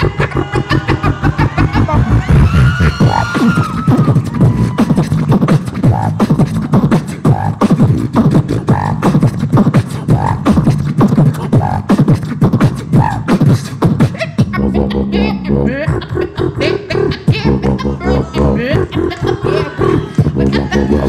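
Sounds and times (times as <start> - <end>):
woman and man beatboxing: 0.0 - 21.0.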